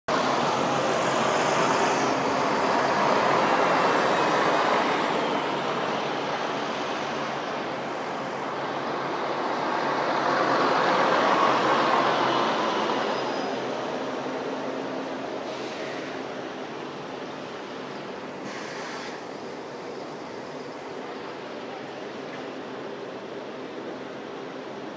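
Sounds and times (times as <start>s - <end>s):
bus diesel engine driving past: 0.1s - 24.9s
other bus engines: 0.1s - 24.9s.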